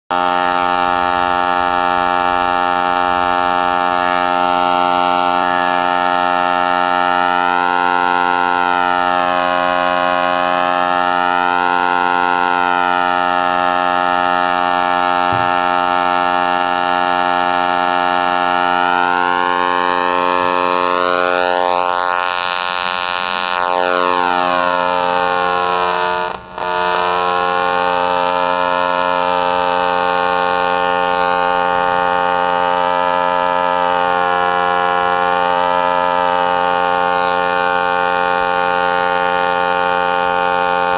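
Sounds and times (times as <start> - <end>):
electrical circuit buzz: 0.1 - 40.9.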